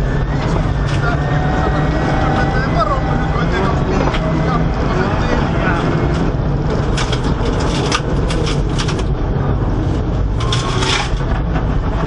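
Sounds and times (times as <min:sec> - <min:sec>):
rally car engine running hard: 0:00.0 - 0:12.0.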